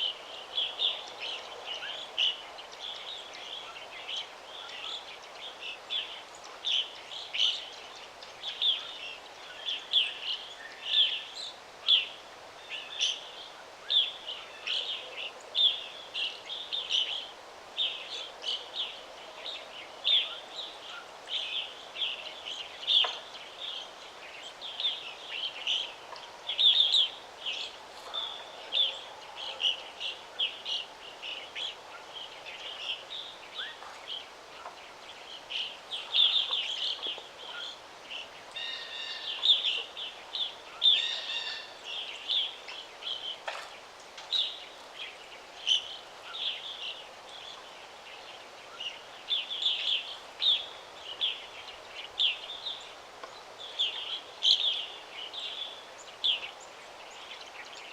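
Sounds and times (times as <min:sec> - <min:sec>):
birds chirping: 0:00.0 - 0:57.9
steady background hiss: 0:00.0 - 0:57.9.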